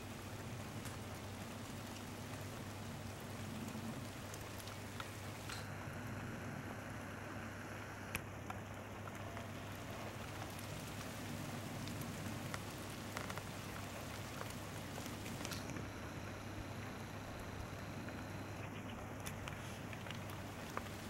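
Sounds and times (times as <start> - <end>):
light rain patter: 0.0 - 21.0.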